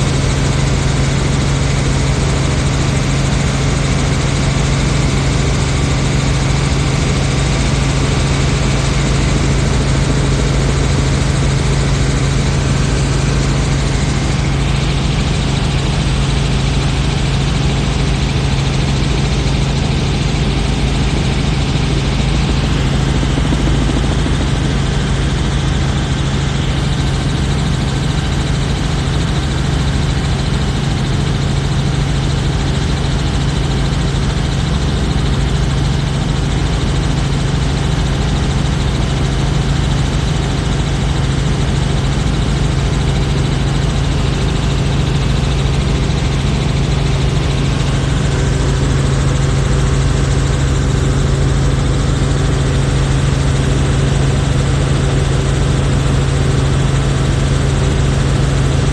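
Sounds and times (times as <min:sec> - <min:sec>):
helicopter cabin drone: 0:00.0 - 0:58.9.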